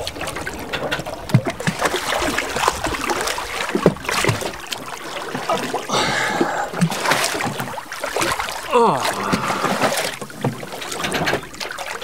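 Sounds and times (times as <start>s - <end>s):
water splashing from swimmer: 1.3s - 12.0s.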